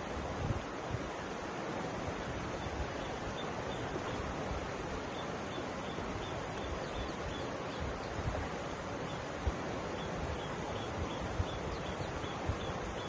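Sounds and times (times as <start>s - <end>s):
low river rumble: 0.0s - 13.0s
water rushing over stones: 0.0s - 13.0s.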